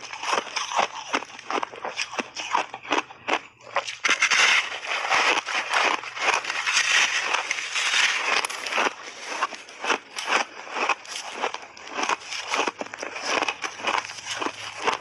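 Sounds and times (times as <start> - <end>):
ice crunching while chewed: 0.0 - 15.0.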